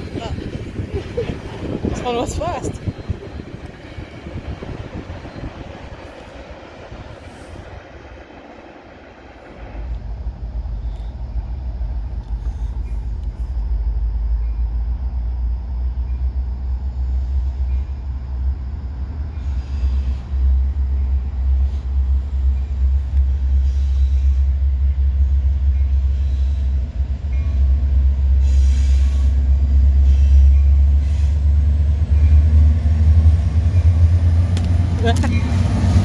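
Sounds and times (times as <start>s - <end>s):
diesel locomotive rumble: 0.0s - 36.0s.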